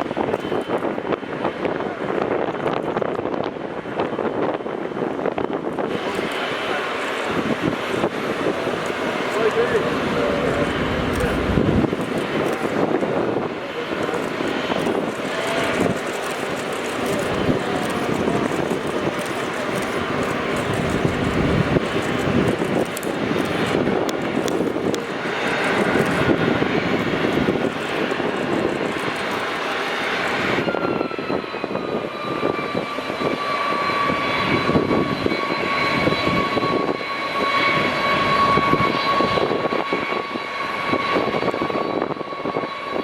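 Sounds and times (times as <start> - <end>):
jet engines roaring: 0.0 - 43.0
high engine whine: 5.8 - 42.9.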